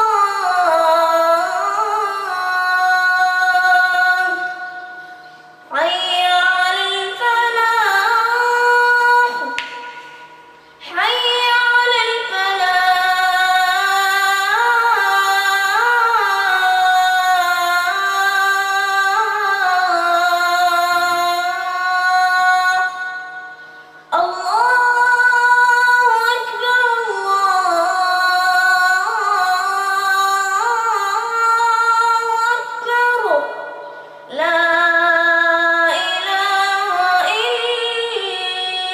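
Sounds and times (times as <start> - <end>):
child reciting melodically: 0.0 - 10.2, 10.8 - 38.9.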